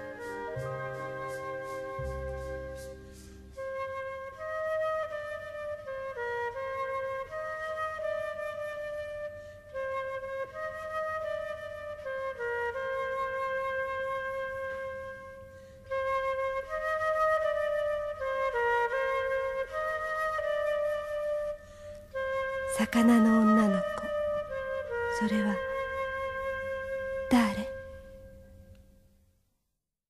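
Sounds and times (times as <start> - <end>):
slow melody of held notes: 0.0 - 28.9.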